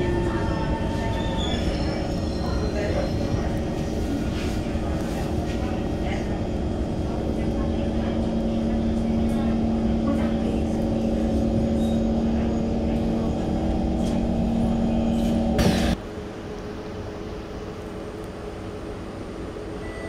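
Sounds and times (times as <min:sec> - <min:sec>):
station platform ambience: 0:00.0 - 0:20.0
train carriage hum: 0:00.0 - 0:20.0.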